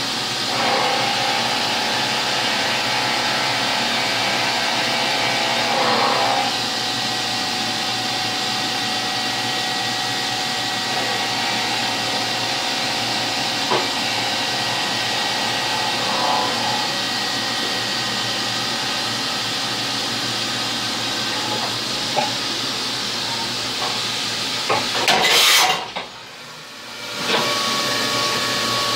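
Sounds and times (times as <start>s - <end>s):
milling machine whirring: 0.0s - 28.9s.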